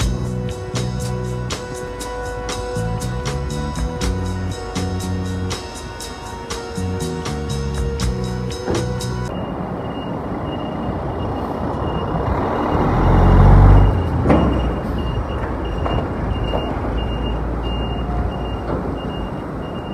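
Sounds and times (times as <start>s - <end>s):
truck engine running: 0.0s - 19.9s
truck reversing alarm beeping: 0.0s - 19.9s.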